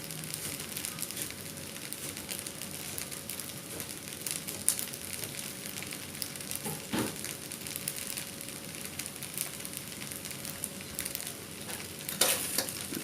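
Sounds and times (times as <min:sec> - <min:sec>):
crackles: 0:00.0 - 0:13.0
rice sizzling in a hot pan: 0:00.0 - 0:13.0.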